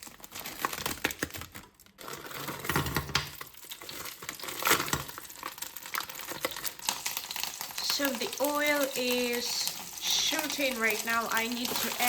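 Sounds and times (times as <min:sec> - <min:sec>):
hot oil crackling in a pan: 0:02.3 - 0:12.0.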